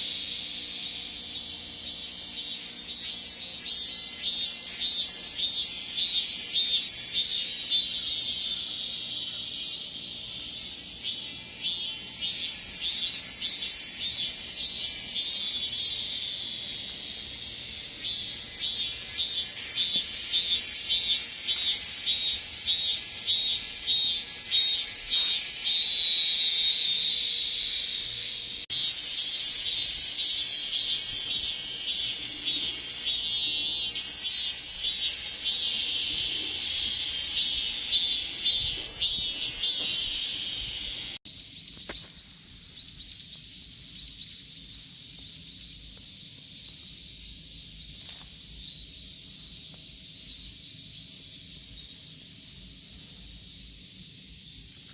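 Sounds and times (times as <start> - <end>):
cicadas singing in pulsing chorus: 0.0 - 54.9.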